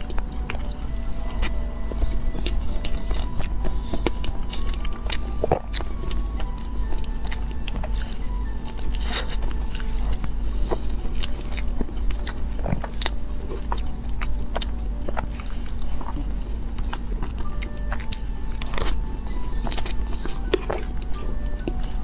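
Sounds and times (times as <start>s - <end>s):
chewing with mouth clicks: 0.0s - 22.0s
low steady hum: 0.0s - 22.0s.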